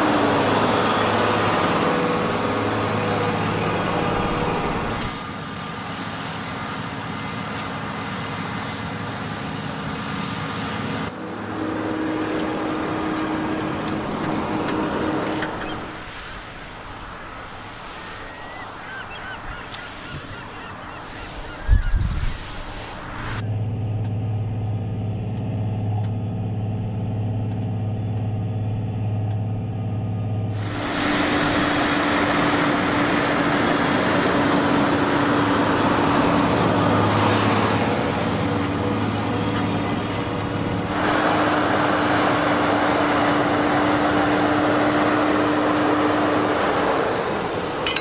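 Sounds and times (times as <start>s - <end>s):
tractor diesel engine under load: 0.0s - 18.8s, 22.4s - 48.0s.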